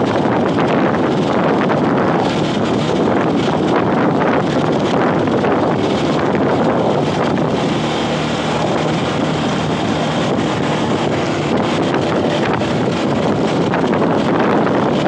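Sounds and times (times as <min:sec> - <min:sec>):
engine drone: 0:00.0 - 0:15.0
wind rushing over microphone: 0:00.0 - 0:15.0.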